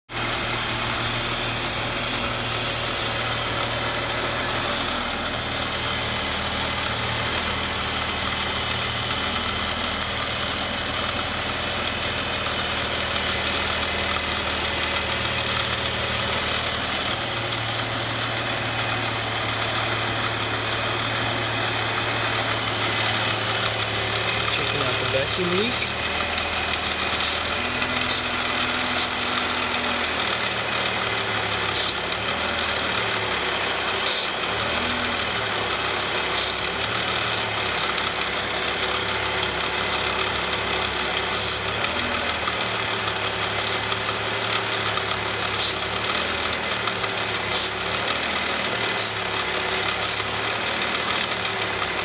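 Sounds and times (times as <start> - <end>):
car engine idling: 0.1 - 52.0.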